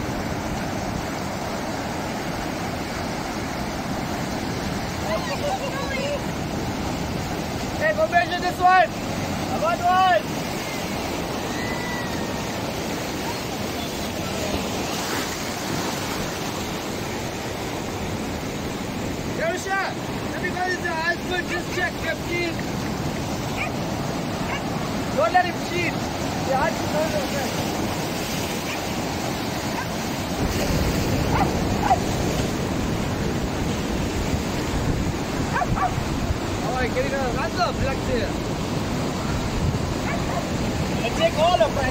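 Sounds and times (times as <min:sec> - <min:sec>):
surf breaking on rocky shore: 0:00.0 - 0:41.9.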